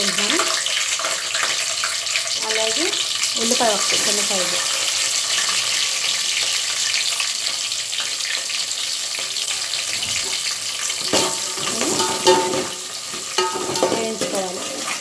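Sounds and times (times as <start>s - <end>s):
chillies and onion sizzling in oil: 0.0s - 15.0s.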